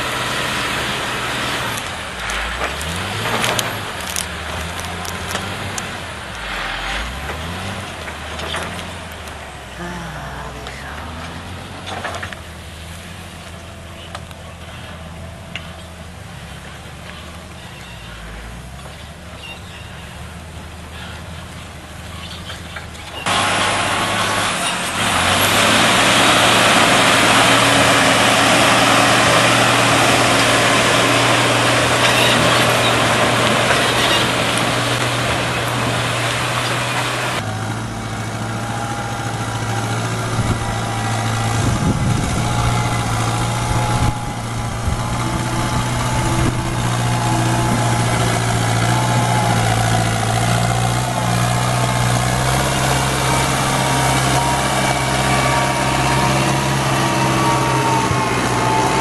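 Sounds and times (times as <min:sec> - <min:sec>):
tractor engine hauling: 0:00.0 - 0:59.0
truck diesel engine under load: 0:00.0 - 0:59.0.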